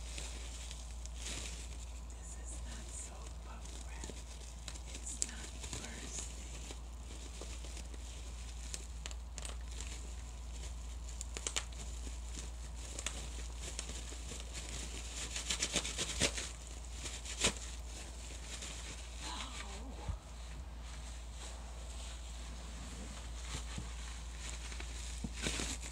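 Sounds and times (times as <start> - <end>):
bubble wrap crinkling: 0.0 - 25.9
bubble wrap popping: 0.0 - 25.9.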